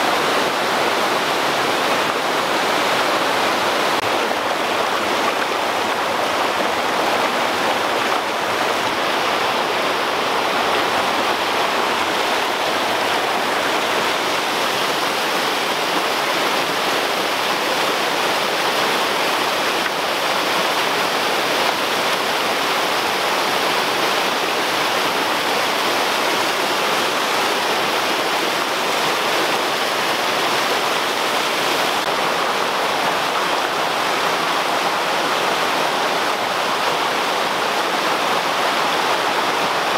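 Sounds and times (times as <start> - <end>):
waterfall rushing over boulders: 0.0 - 39.9.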